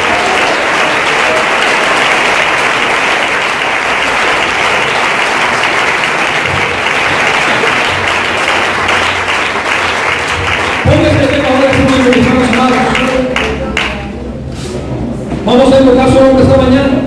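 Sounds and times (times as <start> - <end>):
crowd applauding: 0.0 - 14.2.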